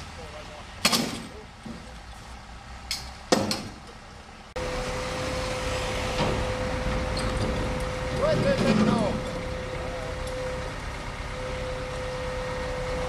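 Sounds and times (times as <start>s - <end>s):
crane engine hum with whine: 1.4s - 13.0s.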